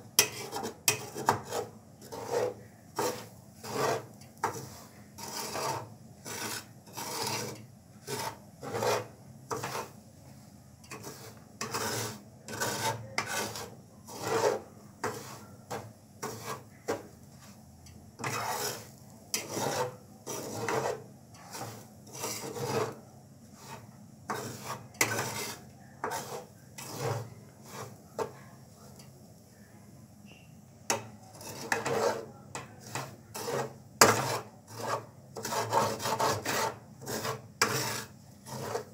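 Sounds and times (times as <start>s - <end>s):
metal spatula scraping pan: 0.0s - 10.0s, 10.8s - 17.6s, 18.2s - 28.4s, 30.3s - 38.9s.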